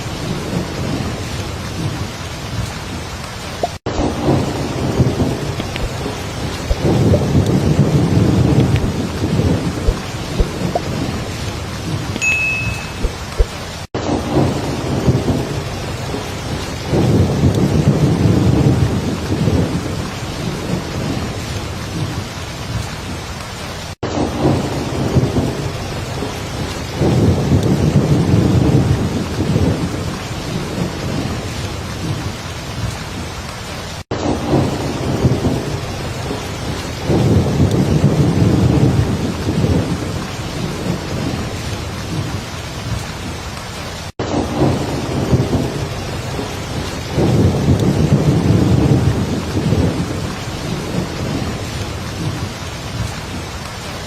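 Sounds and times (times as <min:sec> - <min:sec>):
low rumble of thunder: 0:00.0 - 0:03.1, 0:03.9 - 0:12.2, 0:13.3 - 0:23.2, 0:24.0 - 0:33.3, 0:34.1 - 0:43.4, 0:44.2 - 0:54.0
heavy rain: 0:00.0 - 0:54.0.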